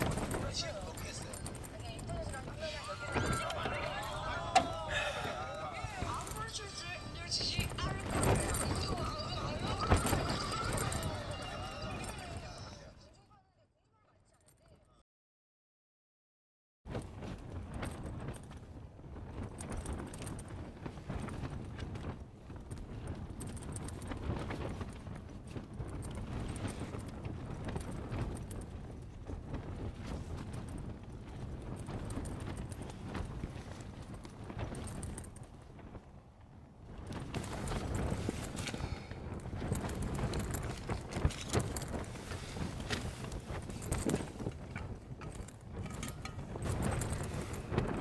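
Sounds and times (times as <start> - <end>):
sleeping bag and gear rustling: 0.0 - 12.8, 16.9 - 48.0
tent fabric flapping in wind: 0.0 - 13.0, 16.9 - 48.0
low wind rumble: 0.0 - 13.3, 16.9 - 48.0.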